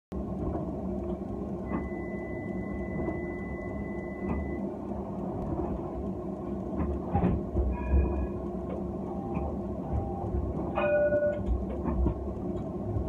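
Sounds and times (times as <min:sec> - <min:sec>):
tram cab hum: 0:00.1 - 0:13.0.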